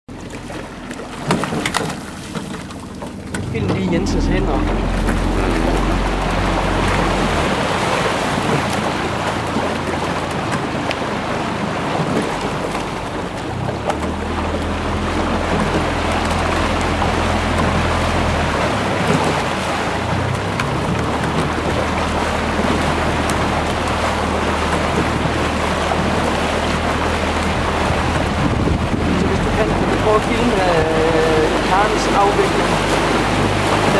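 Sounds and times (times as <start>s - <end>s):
water washing around boats: 0.1s - 33.9s
wind buffeting microphone: 3.1s - 33.9s.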